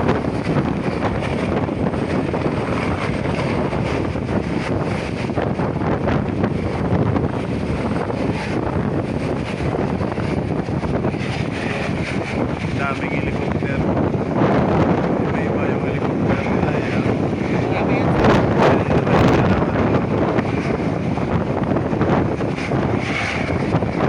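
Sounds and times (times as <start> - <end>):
helicopter rotor and turbine: 0.0 - 24.0.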